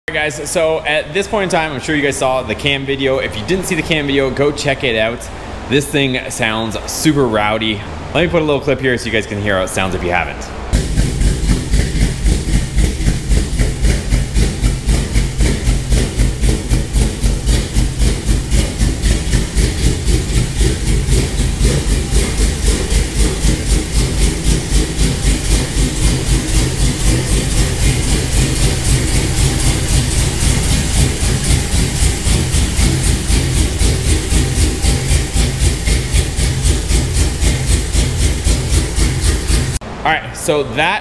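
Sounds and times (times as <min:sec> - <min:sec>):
car engine idling with choppy lope: 0:00.1 - 0:40.0.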